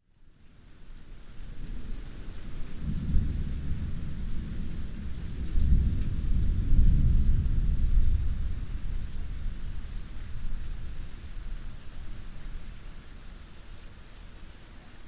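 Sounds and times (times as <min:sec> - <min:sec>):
heavy rain: 0:00.1 - 0:15.0
rolling thunder rumble: 0:01.5 - 0:14.1.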